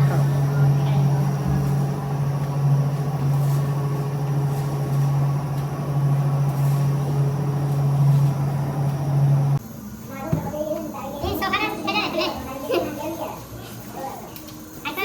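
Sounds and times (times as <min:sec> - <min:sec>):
bakery machinery humming: 0:00.0 - 0:15.0.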